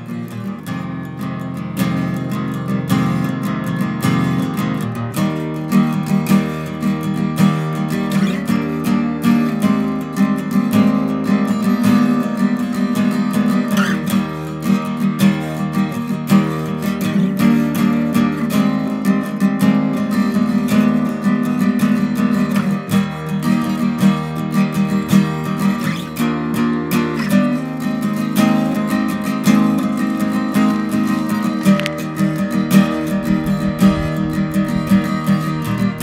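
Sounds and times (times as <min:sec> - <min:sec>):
strummed acoustic guitar: 0:00.0 - 0:36.0.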